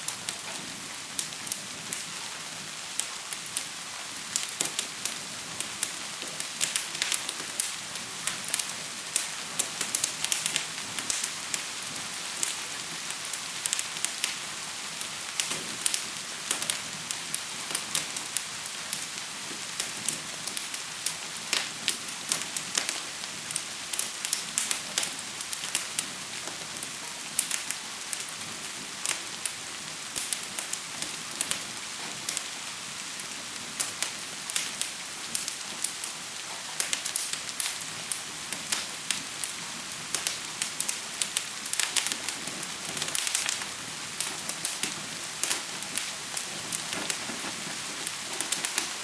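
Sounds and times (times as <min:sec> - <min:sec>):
fire crackling and popping: 0:00.0 - 0:49.0
gentle rain falling: 0:00.0 - 0:49.0.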